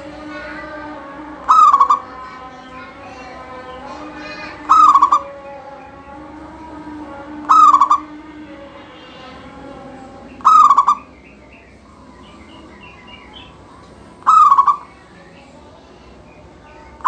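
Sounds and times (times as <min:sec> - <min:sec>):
dove cooing: 0:00.0 - 0:15.1
small birds chirping: 0:00.0 - 0:17.0.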